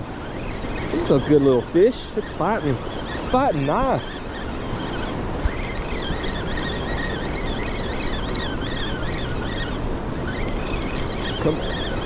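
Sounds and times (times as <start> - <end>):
fishing reel whirring: 0.0 - 12.0.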